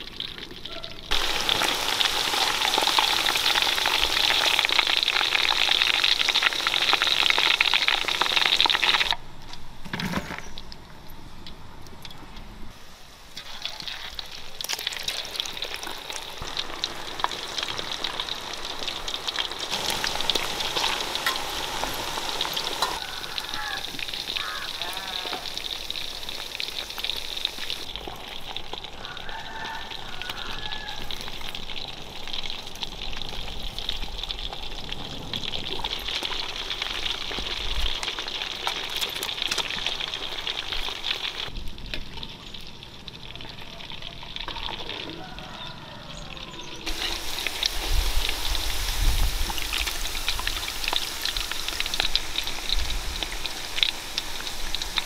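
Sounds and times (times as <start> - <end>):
deep-frying sizzle with crackles: 0.0 - 9.2, 12.7 - 55.0.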